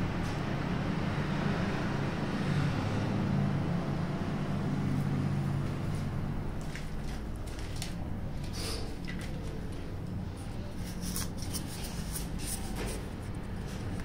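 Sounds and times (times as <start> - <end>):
low mechanical hum and rumble: 0.0 - 14.0.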